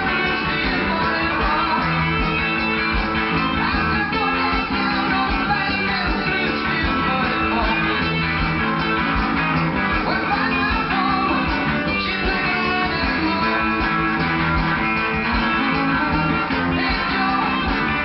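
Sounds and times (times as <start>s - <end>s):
folk-rock guitar instrumental: 0.0s - 18.0s.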